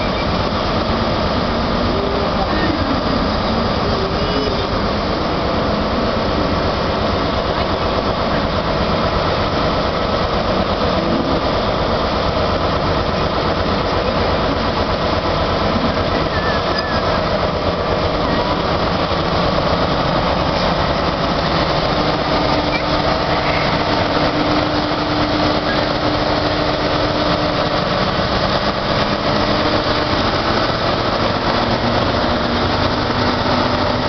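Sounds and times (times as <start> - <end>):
diesel engine drone: 0.0 - 34.0
train coaches rolling past: 0.0 - 34.0.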